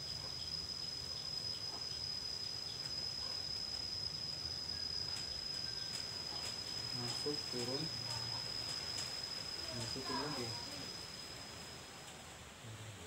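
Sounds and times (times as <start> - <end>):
cricket trilling: 0.0 - 13.0
low background hum: 0.0 - 13.0.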